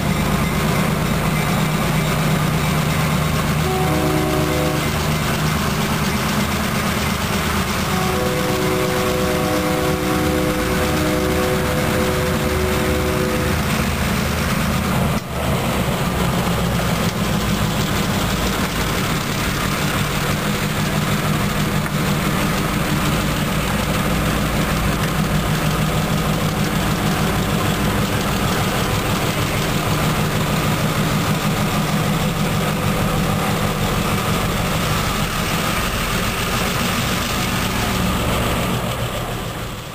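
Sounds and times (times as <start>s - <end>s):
diesel locomotive engine throb: 0.0s - 39.9s.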